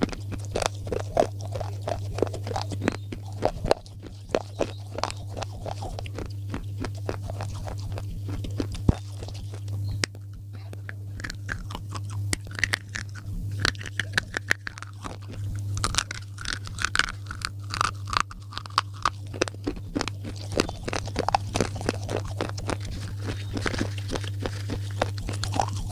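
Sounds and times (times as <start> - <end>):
chewing with sharp crunches: 0.0 - 25.9
steady low hum: 0.0 - 25.9.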